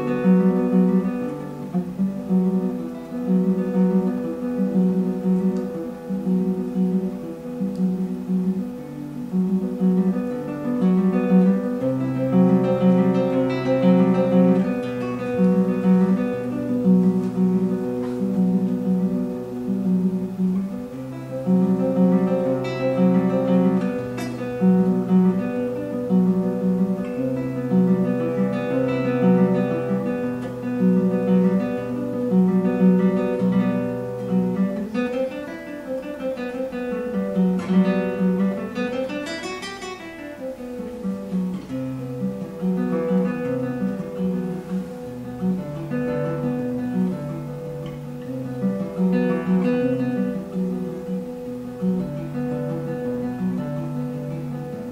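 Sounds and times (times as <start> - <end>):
fingerstyle classical guitar: 0.0 - 54.9.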